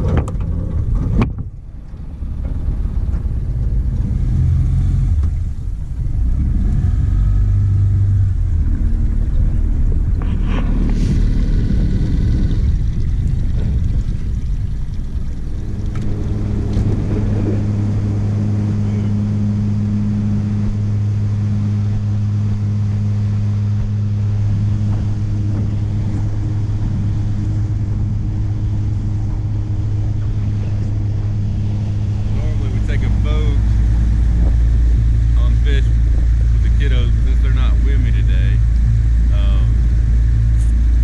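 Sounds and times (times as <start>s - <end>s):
outboard motor running: 0.0s - 41.0s
rushing water noise: 0.0s - 41.0s.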